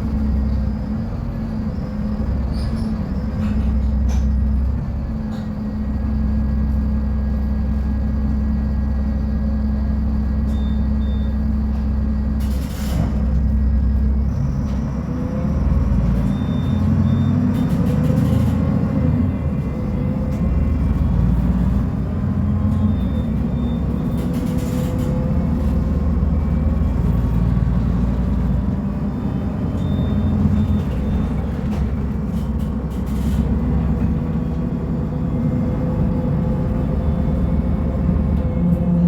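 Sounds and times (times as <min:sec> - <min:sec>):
bus diesel engine rumbling: 0:00.0 - 0:39.0.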